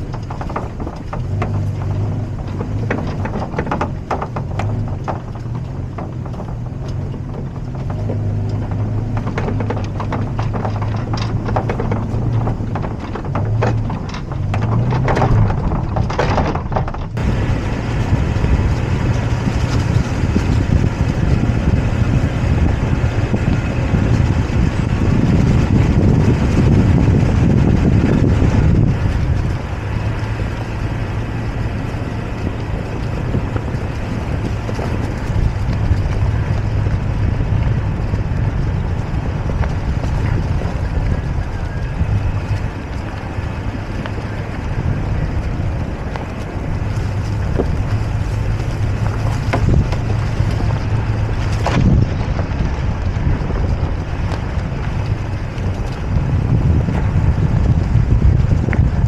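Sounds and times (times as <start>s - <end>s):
pickup engine running low: 0.0s - 59.0s
tyres crackling and knocking: 0.0s - 59.0s
wind rumble on microphone: 0.0s - 59.0s.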